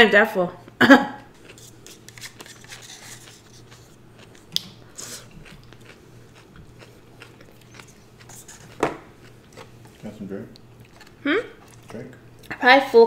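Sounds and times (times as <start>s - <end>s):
person chewing food: 1.2s - 12.6s.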